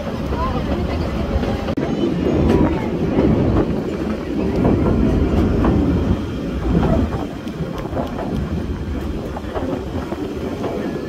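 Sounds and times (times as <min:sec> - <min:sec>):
train coaches rumbling: 0:00.0 - 0:11.0
wheels clattering over rail joints: 0:00.0 - 0:11.0.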